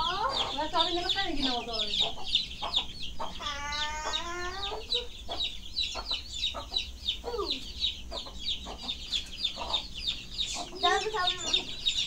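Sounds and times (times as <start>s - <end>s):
chicken calling: 0.0s - 12.0s
chickens peeping: 0.0s - 12.0s.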